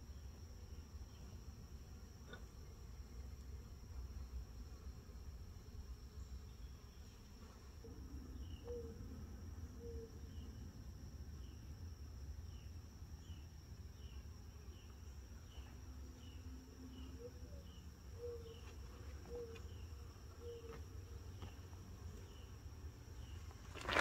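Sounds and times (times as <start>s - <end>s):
insect chirps: 0.0s - 24.0s
night insects droning: 0.0s - 24.0s.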